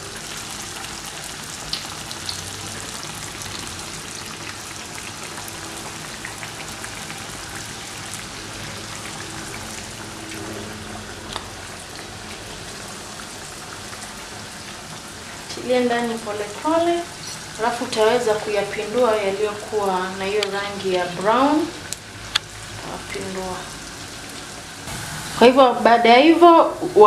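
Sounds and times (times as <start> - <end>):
dough deep-frying in hot oil: 0.0 - 27.0.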